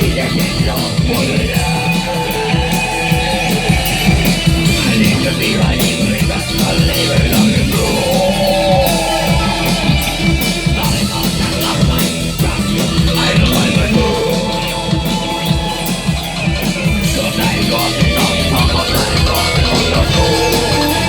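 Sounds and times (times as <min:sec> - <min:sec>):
distorted electric guitar: 0:00.0 - 0:21.0
drum kit beat: 0:00.0 - 0:21.0
person singing or shouting: 0:00.0 - 0:21.0.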